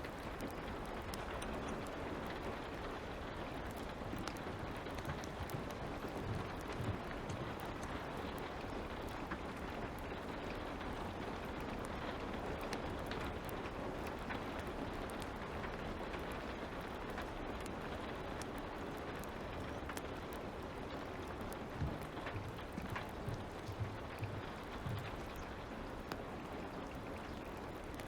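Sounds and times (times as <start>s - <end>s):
light rain: 0.0s - 28.0s
wood fire crackling: 0.0s - 28.0s.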